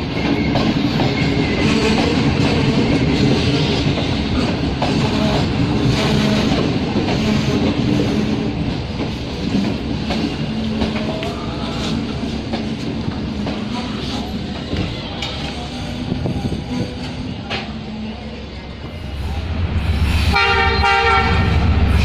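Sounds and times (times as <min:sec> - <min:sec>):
train rumbling at speed: 0:00.0 - 0:22.0.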